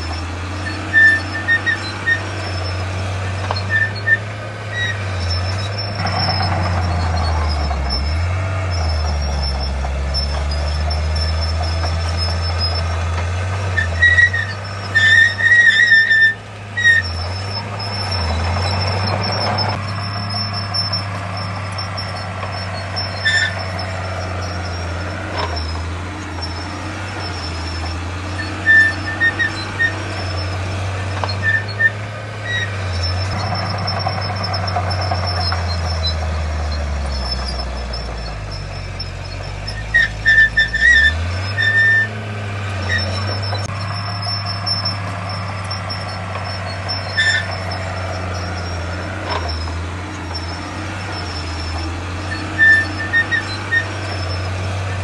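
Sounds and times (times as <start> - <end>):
heavy diesel machinery engine: 0.0 - 55.0
short high-pitched squeals: 0.0 - 55.0.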